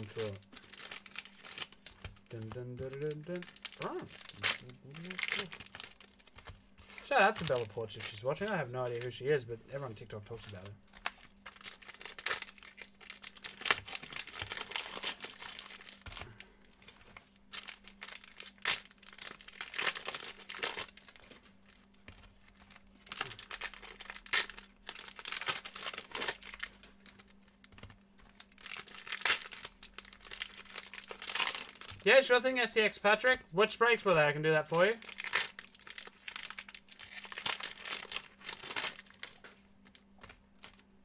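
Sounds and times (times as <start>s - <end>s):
plastic wrappers crinkling and tearing: 0.0s - 40.9s.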